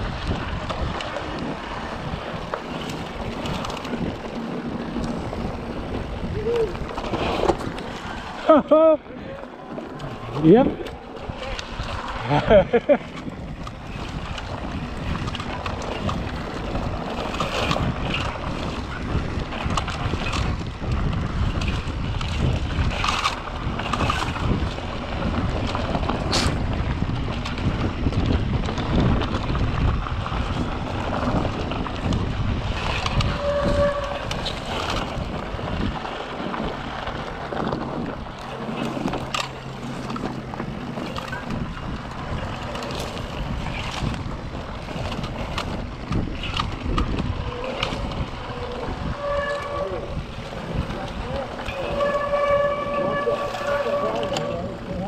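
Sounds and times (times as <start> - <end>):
bike clicks and rattles: 0.0 - 55.0
bike tyres rolling on dirt: 0.0 - 55.0
wind buffeting microphone: 0.0 - 55.0.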